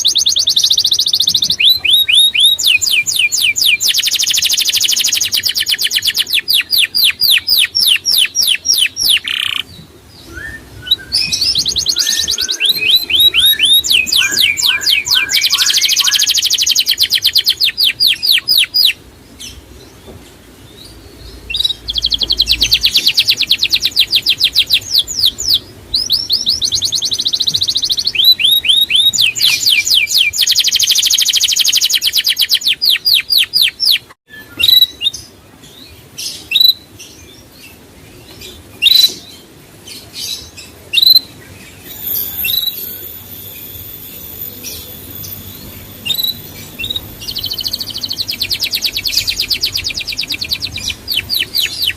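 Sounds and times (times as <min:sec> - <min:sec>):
songbird singing rapid trills: 0:00.0 - 0:19.6, 0:20.7 - 0:35.1, 0:40.0 - 0:51.9.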